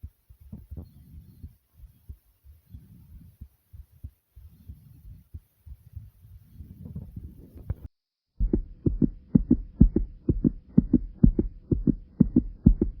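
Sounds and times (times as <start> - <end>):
heartbeat: 0.0 - 13.0.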